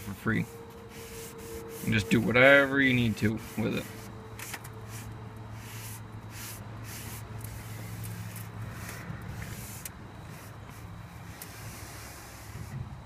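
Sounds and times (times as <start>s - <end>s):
cloth rubbing on wooden boards: 0.0s - 12.8s
steady low hum: 0.0s - 13.0s.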